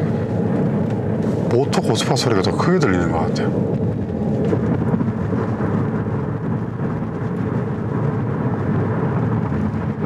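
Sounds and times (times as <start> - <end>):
road and tyre noise in car: 0.0 - 10.0.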